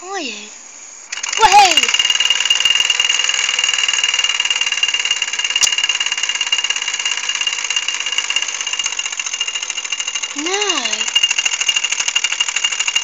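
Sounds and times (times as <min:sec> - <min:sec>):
toy steam engine chuffing: 0:01.1 - 0:13.0.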